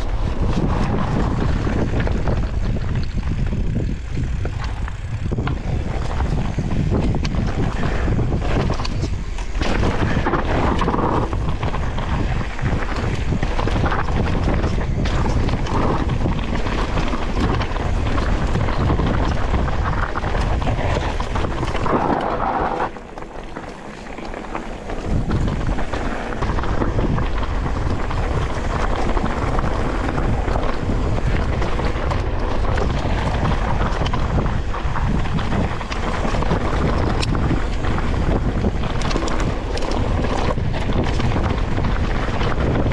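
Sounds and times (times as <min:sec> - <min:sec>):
mountain bike rattling downhill: 0:00.0 - 0:42.9
wind buffeting microphone: 0:00.0 - 0:42.9.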